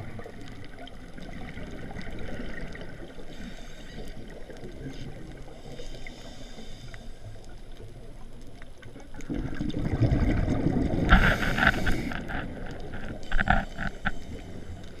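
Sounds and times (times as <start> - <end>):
underwater bubbles from diver breathing: 0.0 - 15.0.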